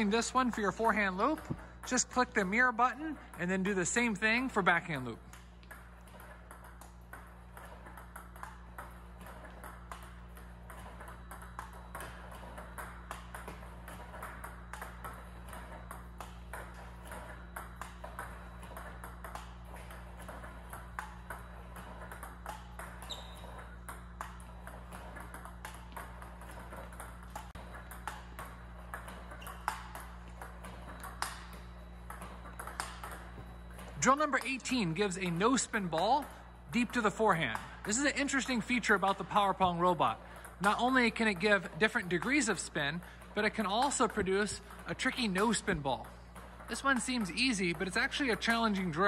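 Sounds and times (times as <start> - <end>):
steady low hum: 0.0 - 49.0
table tennis balls clicking: 0.0 - 49.0.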